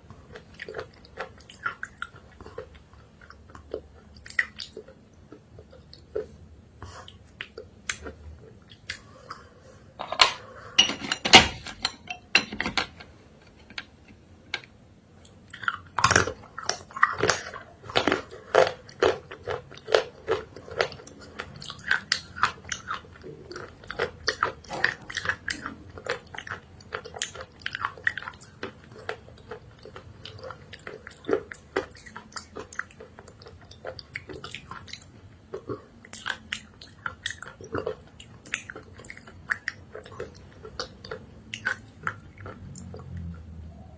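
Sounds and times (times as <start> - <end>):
person chewing with crunching: 0.0 - 10.8, 15.2 - 43.9.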